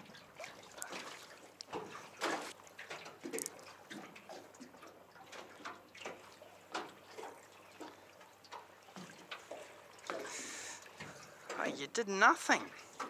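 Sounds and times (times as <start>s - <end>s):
waves lapping against metal boat: 0.0s - 13.0s.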